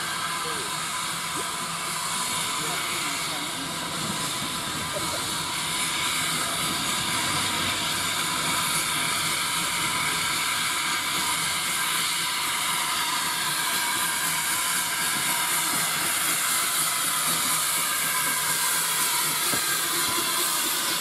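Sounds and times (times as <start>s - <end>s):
steam hissing from locomotive: 0.0s - 21.0s.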